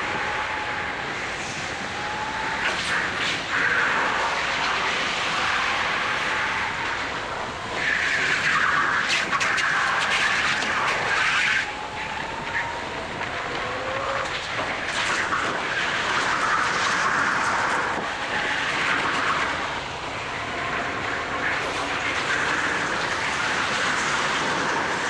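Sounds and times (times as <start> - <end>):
track noise: 0.0 - 25.0.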